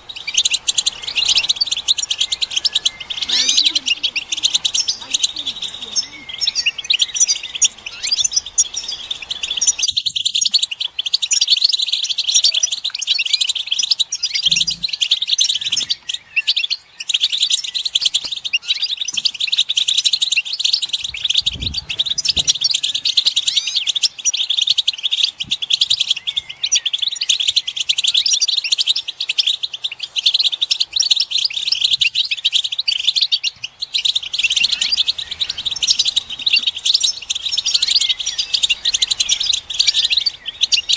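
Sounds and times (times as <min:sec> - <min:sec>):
goldfinches twittering: 0:00.0 - 0:40.9.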